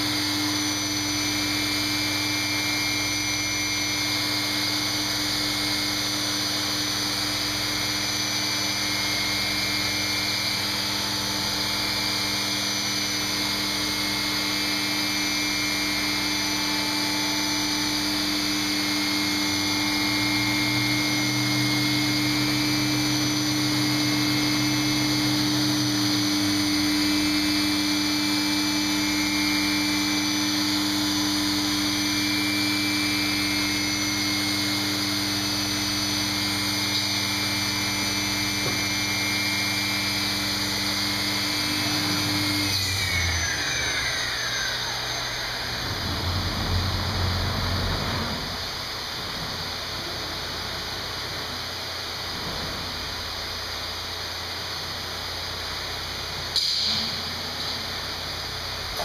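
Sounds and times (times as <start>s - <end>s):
high wavering whine: 0.0s - 52.3s
lower machine hum: 0.0s - 59.0s
machine mechanical hum: 0.0s - 59.0s.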